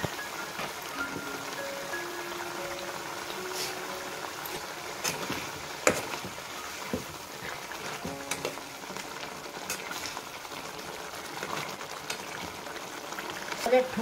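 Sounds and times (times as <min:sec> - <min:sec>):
gravy simmering and bubbling: 0:00.0 - 0:14.0.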